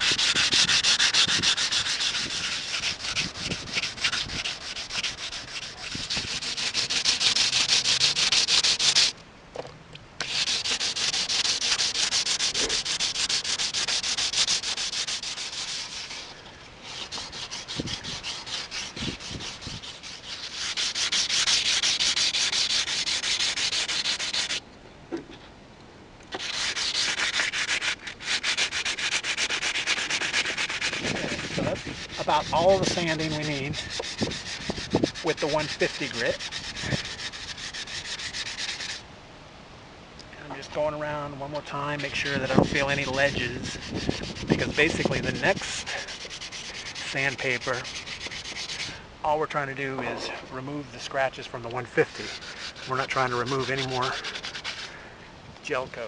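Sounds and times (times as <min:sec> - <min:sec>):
sandpaper scraping strokes: 0:00.0 - 0:09.2, 0:10.2 - 0:24.6, 0:26.3 - 0:39.0, 0:40.6 - 0:55.1.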